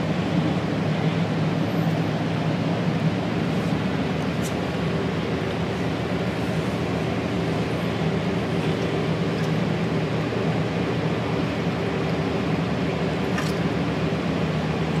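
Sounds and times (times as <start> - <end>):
ship engine drone: 0.0 - 15.0.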